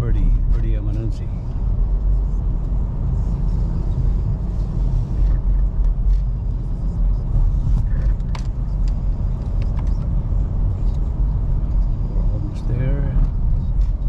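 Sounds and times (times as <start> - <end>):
car driving rumble from cabin: 0.0 - 14.0.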